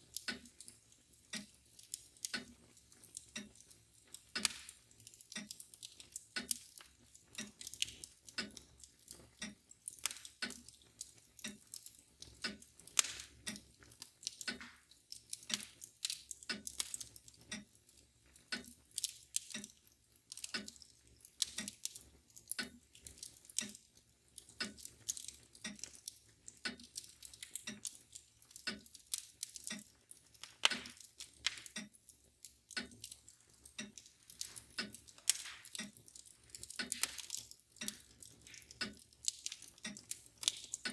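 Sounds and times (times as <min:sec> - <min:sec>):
clock ticking: 0:00.0 - 0:40.9
fire crackling and popping: 0:00.0 - 0:40.9.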